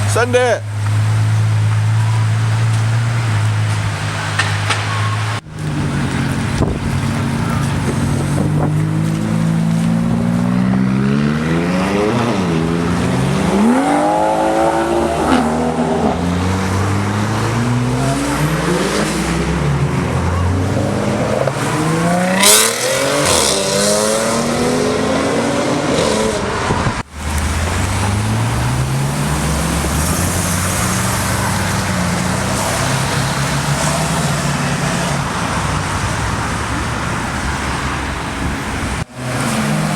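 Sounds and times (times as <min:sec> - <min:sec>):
sports car engines accelerating: 0:00.0 - 0:39.9.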